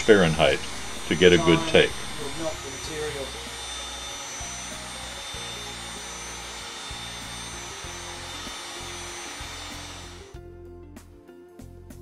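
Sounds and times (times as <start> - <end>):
heat gun blowing: 0.0 - 10.4
background music: 0.0 - 12.0.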